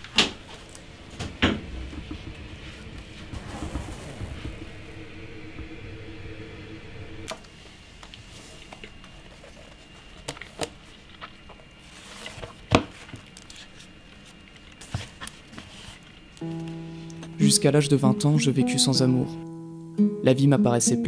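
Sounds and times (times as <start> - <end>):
low steady hum: 0.0 - 14.7, 15.4 - 20.2.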